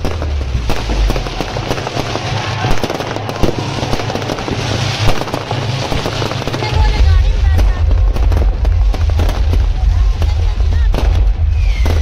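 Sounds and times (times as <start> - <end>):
festival music with heavy bass: 0.0 - 12.0
firecrackers crackling: 0.0 - 12.0
large crowd voices: 0.0 - 12.0.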